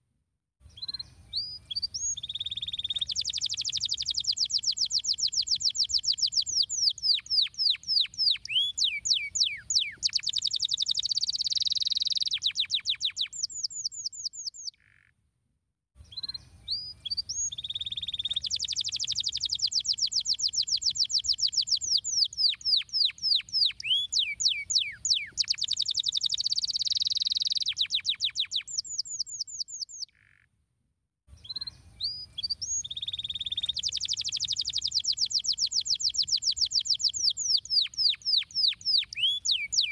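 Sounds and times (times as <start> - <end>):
canary singing trills: 0.7 - 15.0, 16.1 - 30.4, 31.4 - 39.9.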